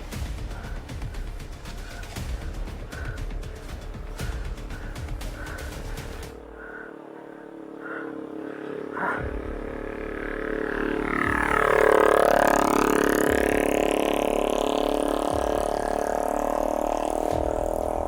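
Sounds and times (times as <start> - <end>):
vehicle engine passing: 0.0 - 18.0.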